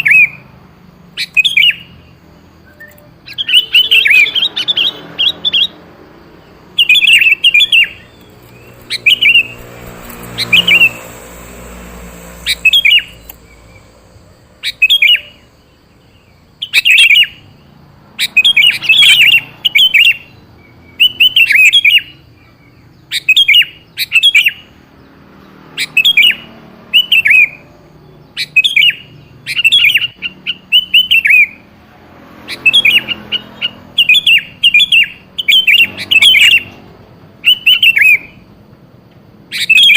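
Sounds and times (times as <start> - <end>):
bird chirping: 0.0 - 38.7, 39.4 - 39.9.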